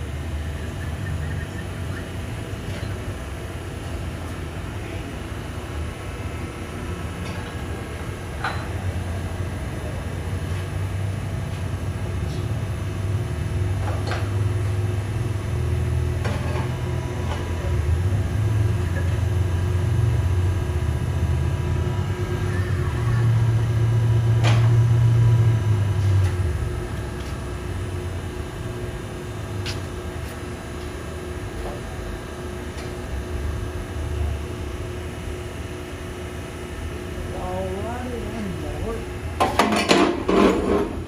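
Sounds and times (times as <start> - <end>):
engine droning: 0.0 - 39.7.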